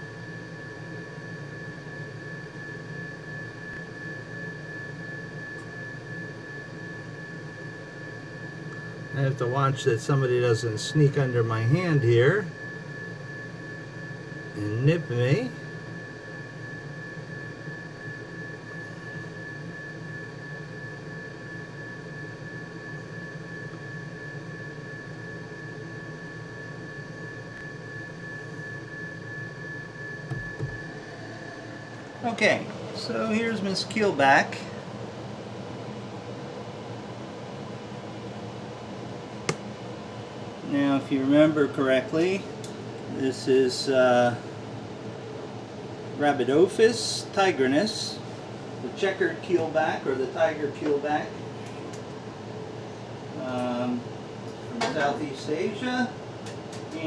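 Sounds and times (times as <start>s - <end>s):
machine hum and hiss: 0.0s - 57.0s
thin high-pitched whine: 0.0s - 57.0s.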